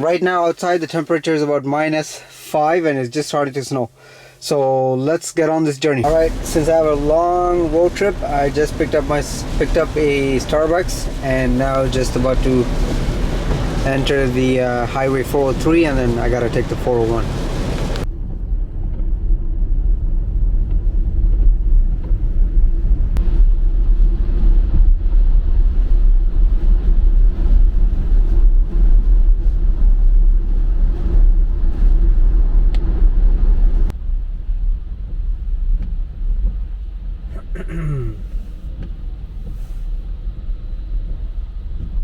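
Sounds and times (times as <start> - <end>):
tyre and road rumble in car: 6.0 - 42.0.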